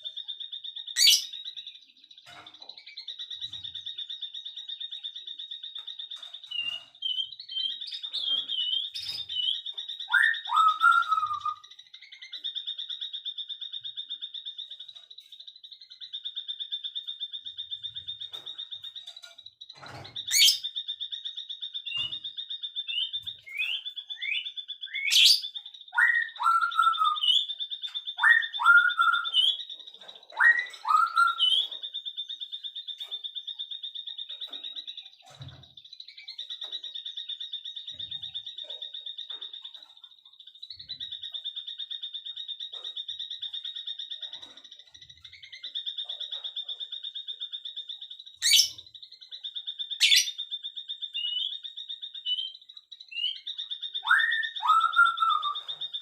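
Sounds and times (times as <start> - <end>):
fast-pulsing bird trill: 2.9 - 19.6, 20.2 - 56.0.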